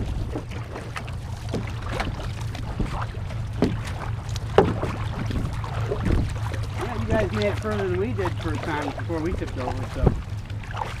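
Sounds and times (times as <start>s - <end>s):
paddle strokes splashing: 0.0s - 11.0s
steady low rumble: 0.0s - 11.0s.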